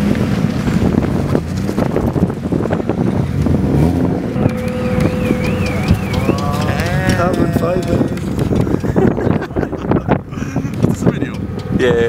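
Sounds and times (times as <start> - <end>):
wind on microphone: 0.0 - 12.0
car engine idling: 0.2 - 12.0.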